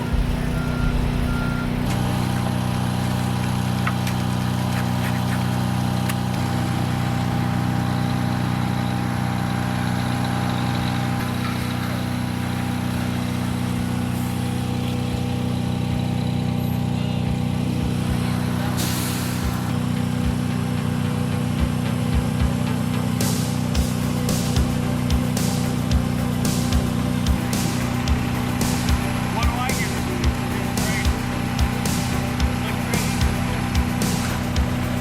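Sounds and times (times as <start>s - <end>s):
large engine running: 0.0s - 35.0s.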